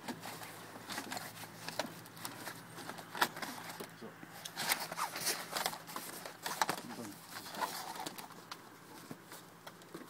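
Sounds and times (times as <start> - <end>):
soft-top roof clicking and rustling: 0.0 - 10.0.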